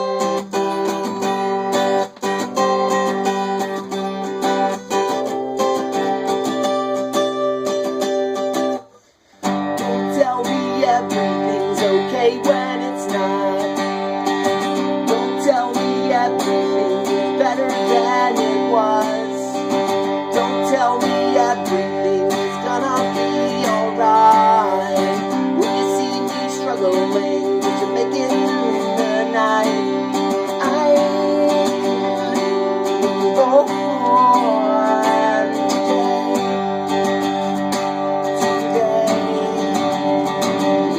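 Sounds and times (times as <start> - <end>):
strummed acoustic guitar music: 0.0 - 40.9.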